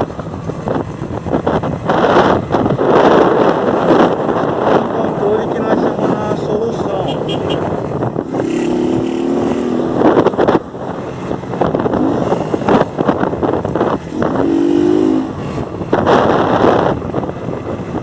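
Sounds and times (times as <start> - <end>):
motorcycle engine revving: 0.0 - 18.0
wind rushing over microphone: 0.0 - 18.0.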